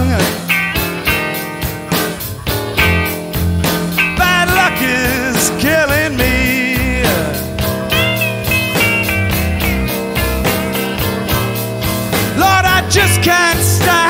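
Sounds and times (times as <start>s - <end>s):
bass: 0.0s - 14.0s
drum beat: 0.0s - 14.0s
electric guitar bent notes: 0.0s - 14.0s.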